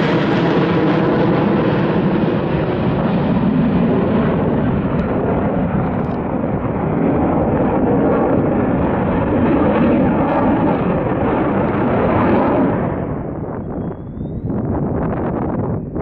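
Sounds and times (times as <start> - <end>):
fighter jet engine overhead: 0.0 - 16.0.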